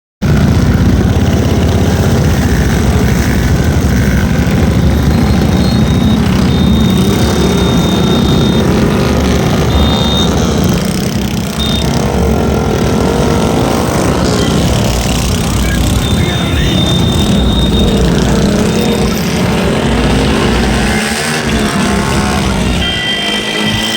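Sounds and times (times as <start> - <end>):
vehicle engine running: 0.2 - 23.9
thin high tone: 4.2 - 23.9.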